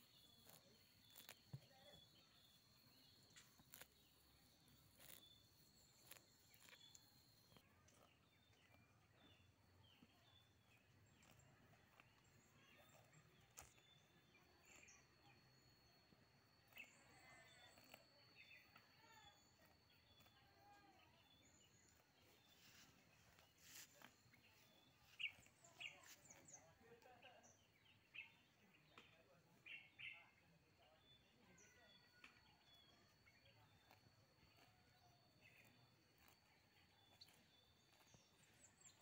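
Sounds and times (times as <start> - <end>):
bird chirps: 0.0 - 39.0.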